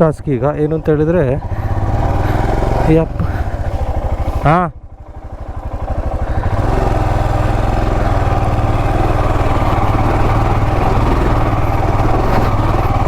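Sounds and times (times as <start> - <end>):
motorcycle engine under load: 0.0 - 13.0.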